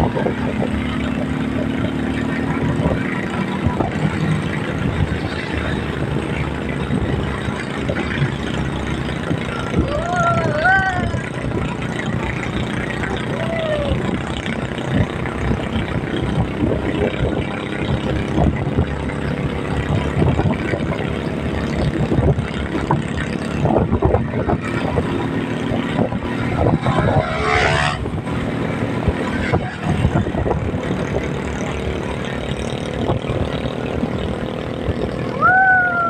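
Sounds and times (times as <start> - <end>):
vehicle engine and road noise: 0.0 - 36.0.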